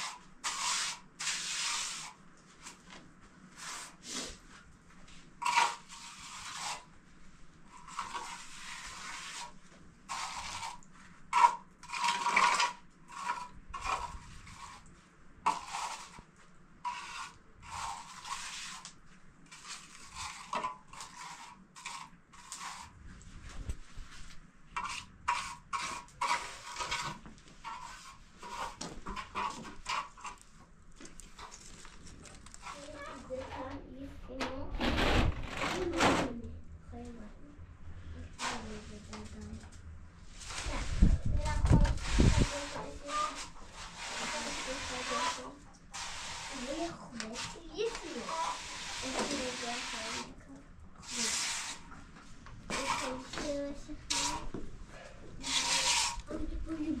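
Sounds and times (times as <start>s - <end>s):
scraping on a hard surface: 0.0s - 6.9s, 7.6s - 36.4s, 38.1s - 57.0s.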